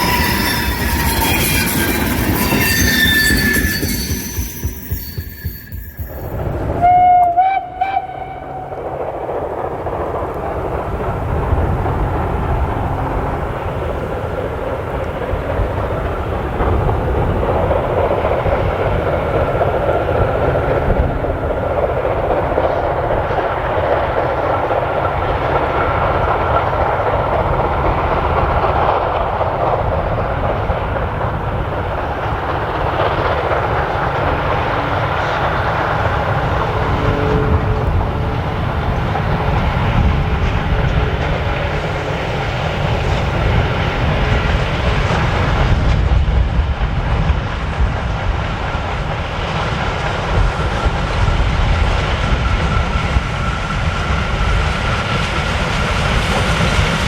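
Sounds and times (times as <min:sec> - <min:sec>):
train rumbling and rattling: 0:00.0 - 0:57.0.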